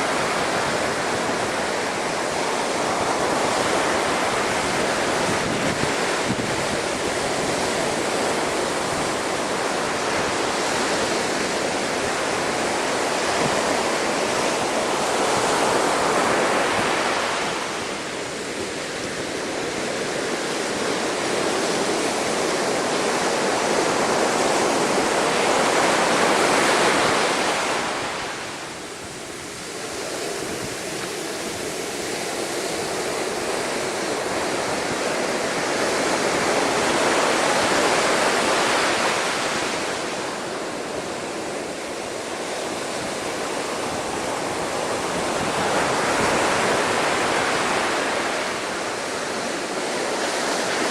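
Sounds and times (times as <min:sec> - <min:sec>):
wind buffeting microphone: 0:00.1 - 0:20.2, 0:20.8 - 0:50.9.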